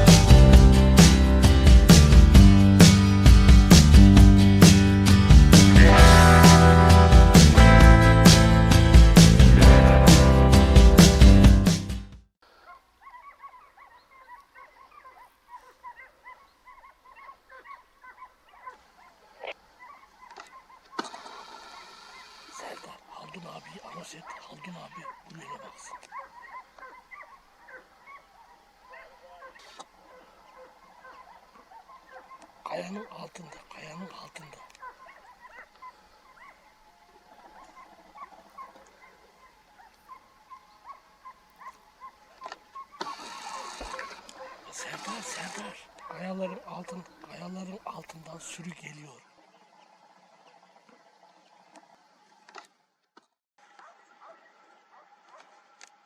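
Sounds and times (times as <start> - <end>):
hunting dogs barking and baying: 0.0 - 11.7, 12.4 - 52.7, 53.6 - 56.0.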